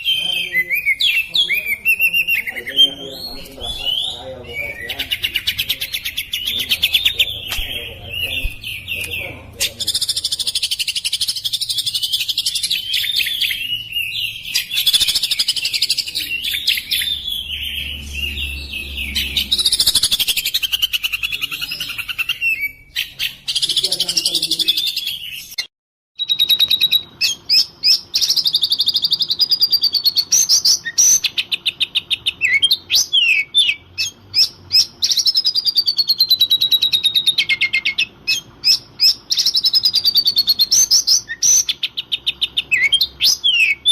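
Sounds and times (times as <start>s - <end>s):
bird singing whistled phrases: 0.0s - 43.9s.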